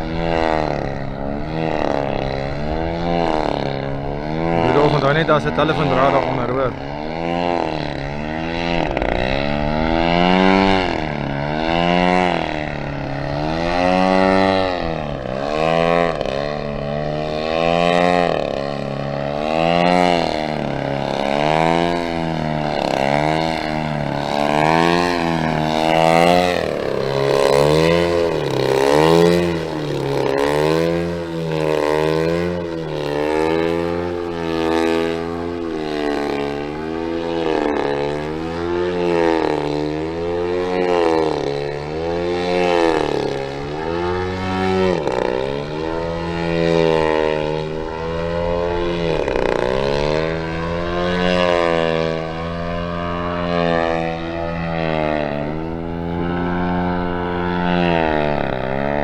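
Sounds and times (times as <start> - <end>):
model plane engine at high power: 0.0 - 59.0.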